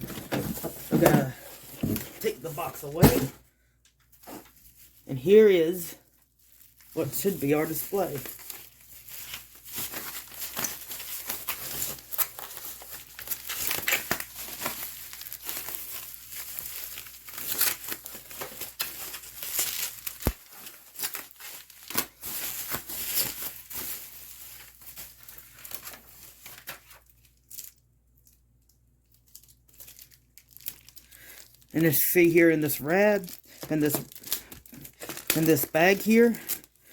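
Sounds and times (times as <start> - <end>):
plastic packaging crinkling: 4.0 - 36.9.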